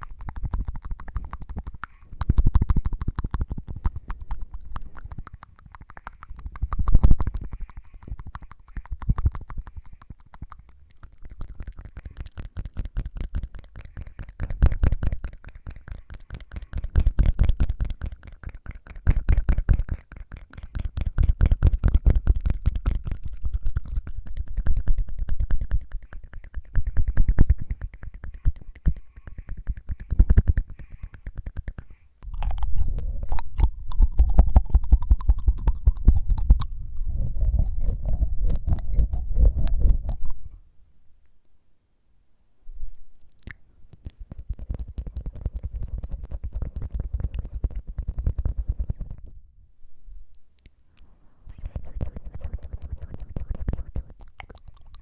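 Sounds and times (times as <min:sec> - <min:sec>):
tongue fluttering and clicking: 0:00.0 - 0:40.6, 0:42.9 - 0:49.4, 0:50.1 - 0:55.0.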